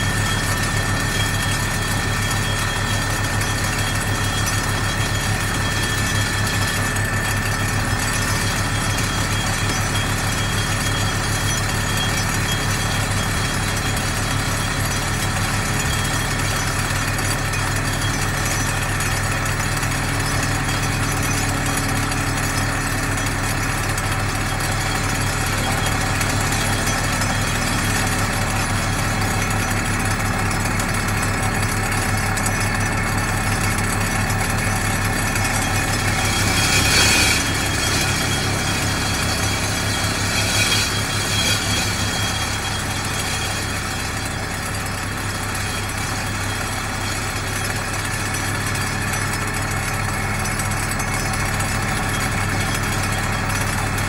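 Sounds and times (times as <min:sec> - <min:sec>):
engine noise: 0:00.0 - 0:54.0
vibratory pile hammer buzzing: 0:00.0 - 0:54.0.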